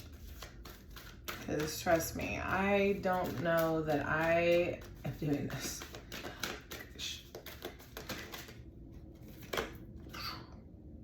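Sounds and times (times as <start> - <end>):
cards clicking and rustling: 0.0 - 10.1.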